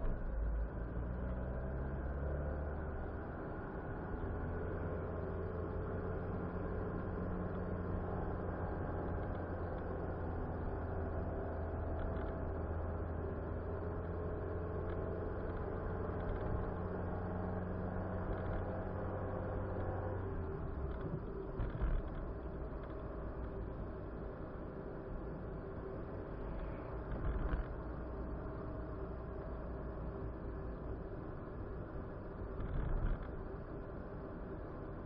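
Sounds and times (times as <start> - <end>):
car engine hum: 0.0 - 35.0
road noise: 0.0 - 35.0.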